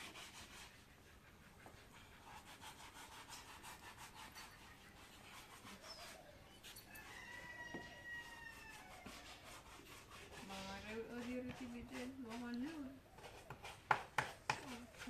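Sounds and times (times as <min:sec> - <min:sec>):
faint rapid rubbing: 0:00.0 - 0:15.0.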